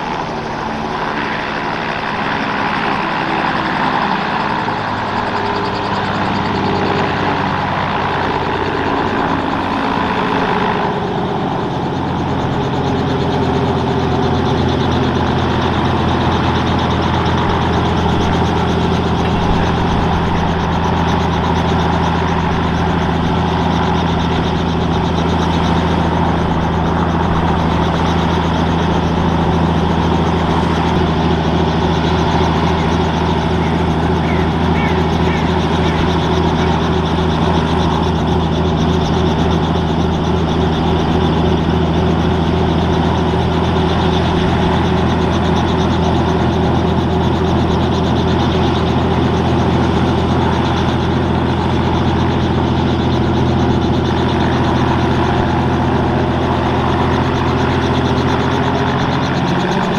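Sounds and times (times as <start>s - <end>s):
helicopter idling with rotors turning: 0.0s - 59.9s.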